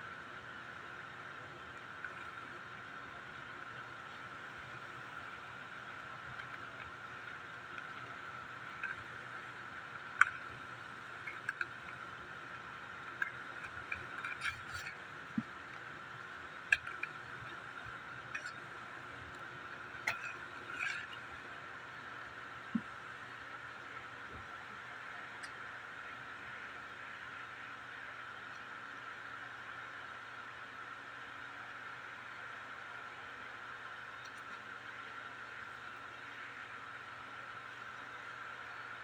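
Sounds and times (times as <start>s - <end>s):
faint background hum: 0.0s - 39.0s.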